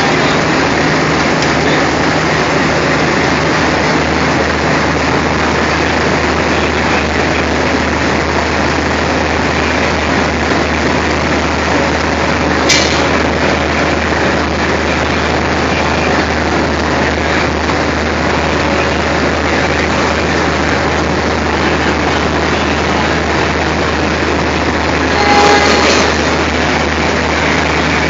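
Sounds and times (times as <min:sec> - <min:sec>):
diesel locomotive engine idling: 0:00.0 - 0:28.0.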